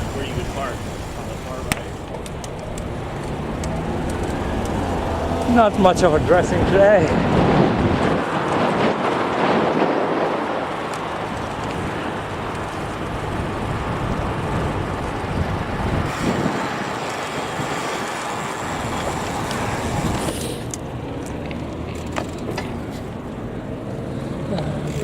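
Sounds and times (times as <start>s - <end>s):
road traffic noise: 0.0s - 25.0s.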